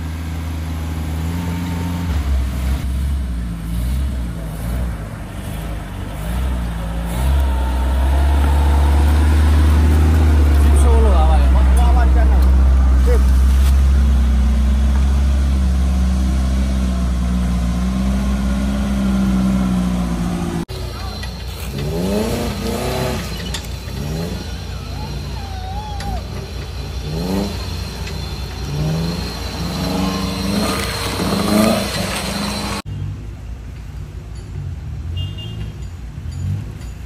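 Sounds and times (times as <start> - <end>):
engine revving: 0.0 - 32.9.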